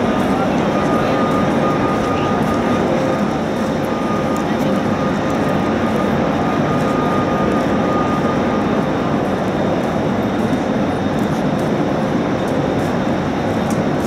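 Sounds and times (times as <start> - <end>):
faint high whine: 0.0 - 14.0
loud drone of standing trains: 0.0 - 14.0.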